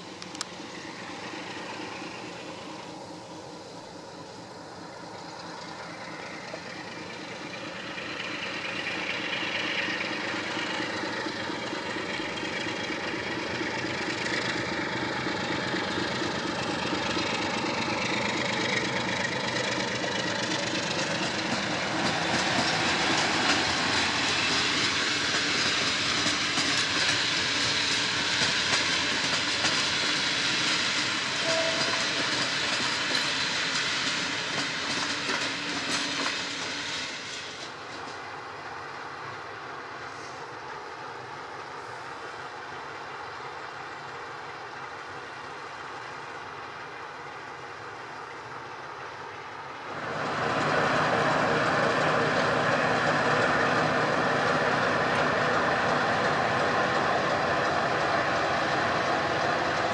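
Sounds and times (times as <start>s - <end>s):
diesel locomotive engine running: 0.0s - 59.9s
train wheels clattering on rails: 0.0s - 59.9s.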